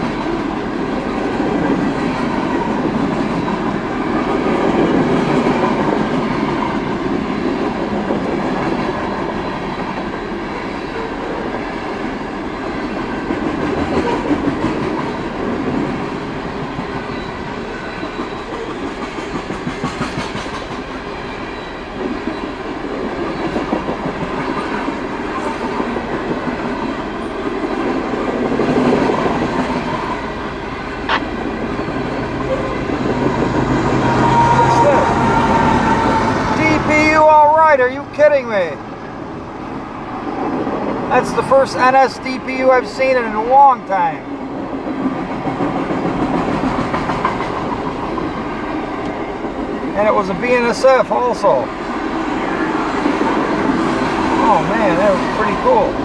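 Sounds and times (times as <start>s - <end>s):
train wheels rolling on rail: 0.0s - 56.0s.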